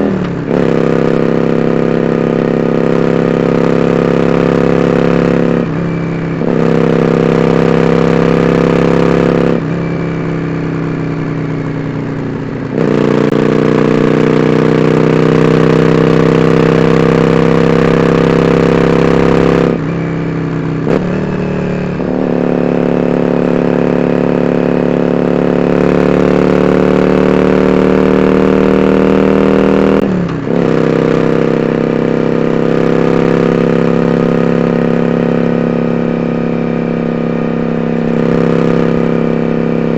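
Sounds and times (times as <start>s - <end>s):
motorcycle exhaust note: 0.0s - 39.9s.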